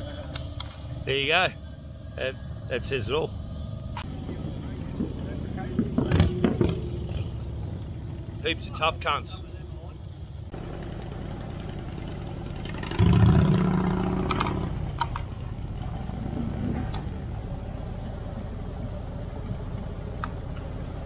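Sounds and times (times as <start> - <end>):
loud engine roar: 0.0 - 21.0
vehicle engine rumbling: 0.0 - 21.0.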